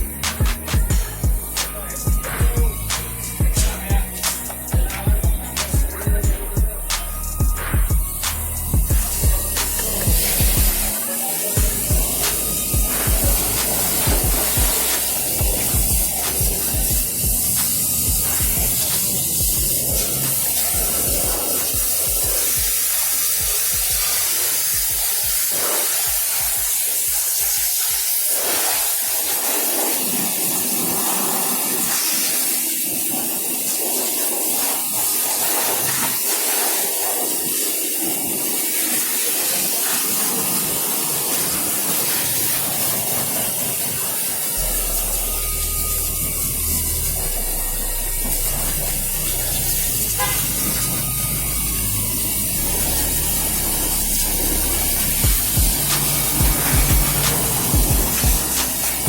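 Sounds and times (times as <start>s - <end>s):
high-pressure water spray hissing: 0.0s - 59.0s.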